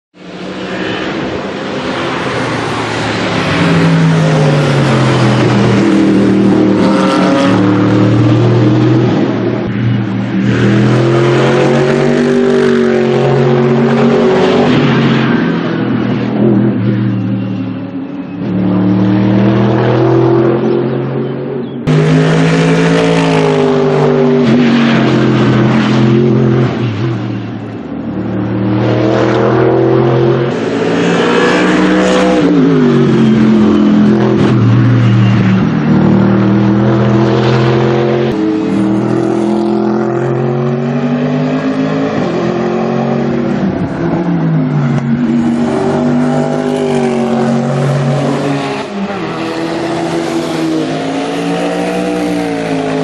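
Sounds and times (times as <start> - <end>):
race car engine revving: 0.2 - 53.0.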